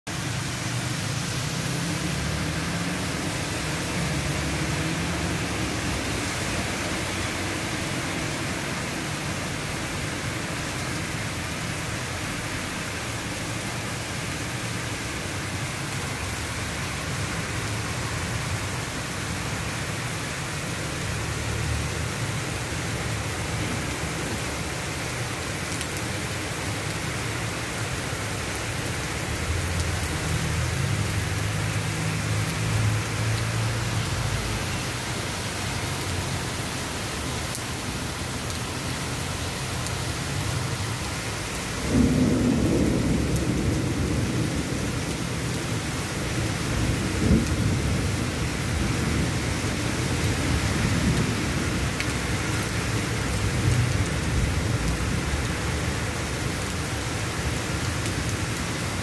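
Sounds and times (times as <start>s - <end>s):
heavy rain hissing: 0.1s - 59.0s.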